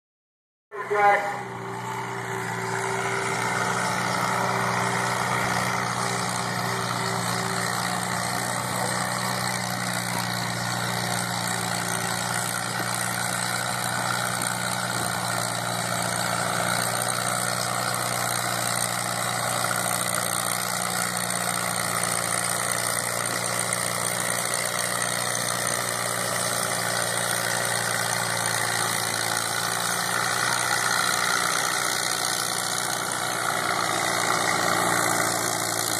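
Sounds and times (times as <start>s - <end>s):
tractor engine running: 0.8s - 35.9s.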